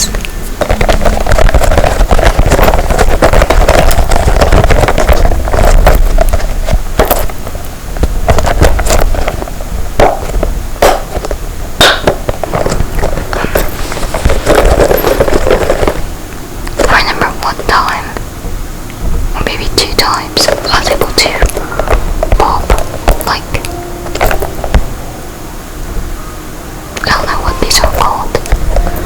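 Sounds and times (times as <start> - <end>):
scratchy rubbing: 0.0 - 18.2, 19.1 - 25.1, 27.0 - 29.0.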